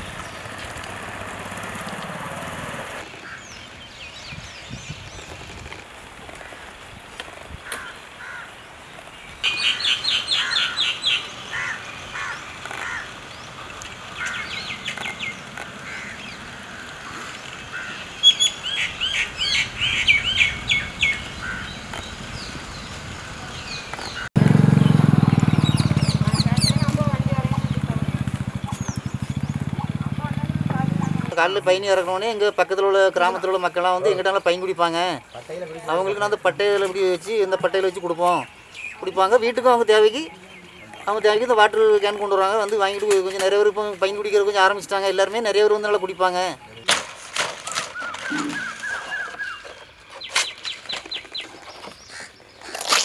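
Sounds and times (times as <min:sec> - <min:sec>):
birds chirping: 0:00.0 - 0:46.9, 0:47.5 - 0:53.0.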